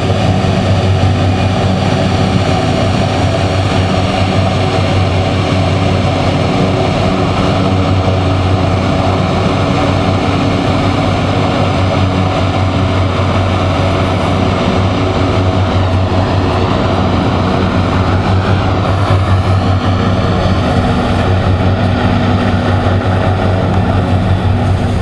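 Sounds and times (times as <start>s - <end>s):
hovercraft engines running: 0.0s - 25.0s.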